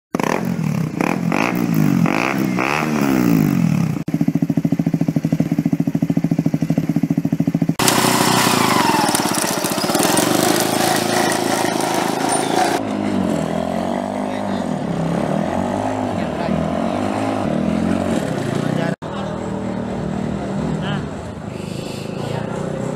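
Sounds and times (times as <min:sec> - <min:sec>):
engine revving and idling: 0:00.1 - 0:21.4
go-kart engine revving: 0:00.1 - 0:22.9.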